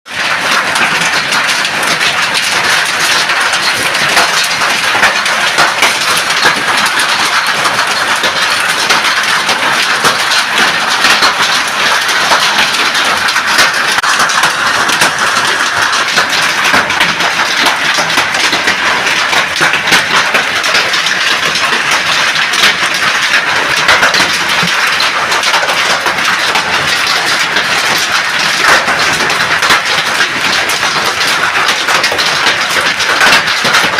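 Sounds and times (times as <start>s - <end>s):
hail cracking impacts: 0.1s - 33.9s.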